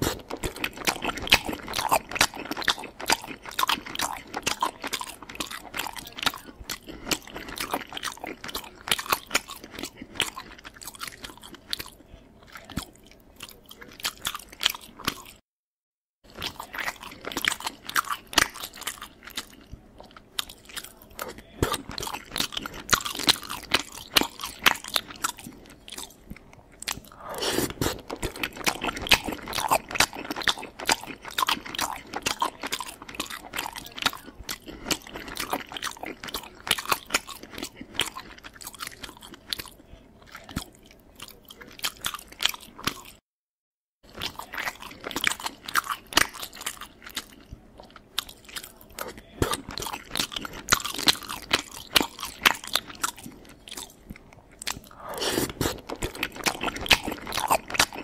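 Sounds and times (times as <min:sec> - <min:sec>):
person chewing food: 0:00.0 - 0:15.4, 0:16.2 - 0:43.2, 0:44.0 - 0:58.0.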